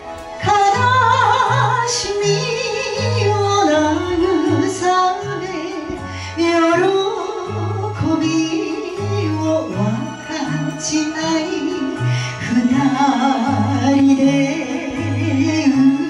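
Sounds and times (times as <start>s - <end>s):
instrumental accompaniment: 0.0s - 16.0s
woman singing into a microphone: 0.2s - 16.0s.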